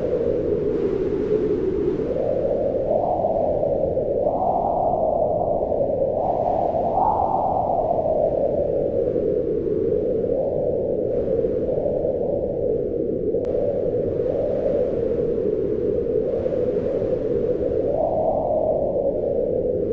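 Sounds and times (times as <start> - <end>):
howling wind: 0.0 - 19.9.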